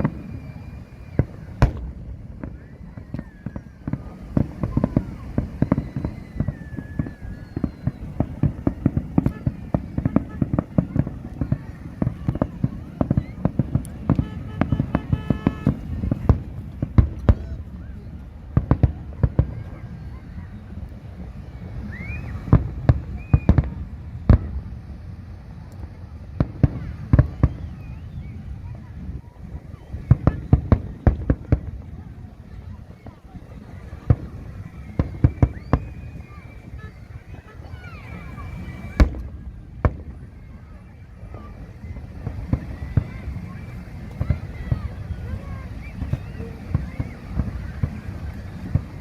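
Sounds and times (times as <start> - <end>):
fireworks bangs and pops: 0.0 - 49.0
fireworks whistling: 0.0 - 49.0.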